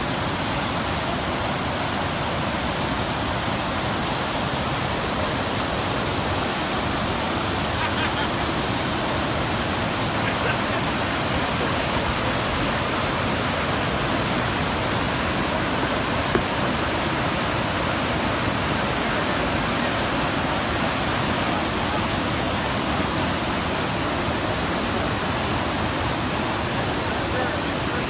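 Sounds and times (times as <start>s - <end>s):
rush of fast-flowing water: 0.0s - 28.0s.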